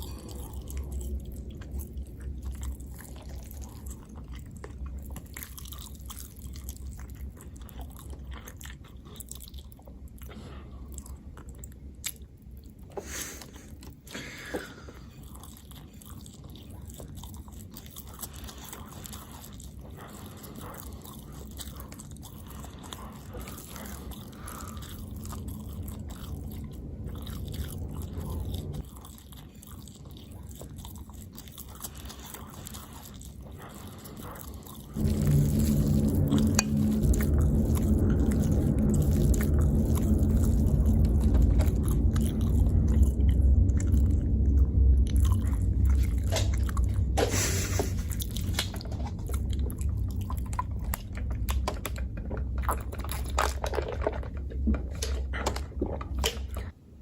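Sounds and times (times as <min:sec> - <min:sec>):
chewing and biting food: 0:00.0 - 0:56.8.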